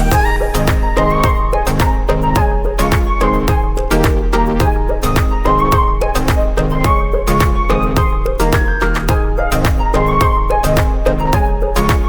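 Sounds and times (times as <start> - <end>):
deep drum notes: 0.0 - 12.0
melody line: 0.0 - 12.0
sharp percussion hits: 0.0 - 12.0.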